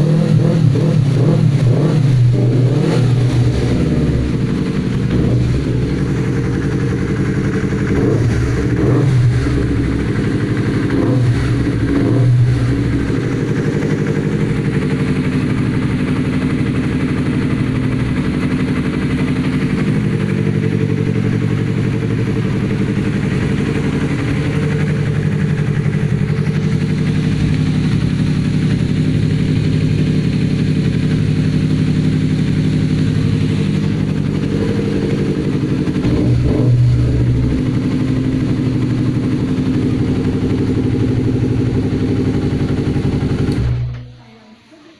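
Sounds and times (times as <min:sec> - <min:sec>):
motorcycle engine revving and idling: 0:00.0 - 0:44.2.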